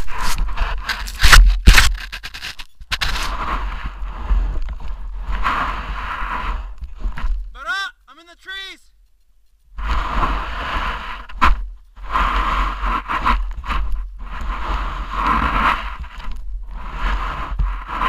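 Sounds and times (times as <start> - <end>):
snow scraping and rustling: 0.0 - 7.4, 9.8 - 18.0.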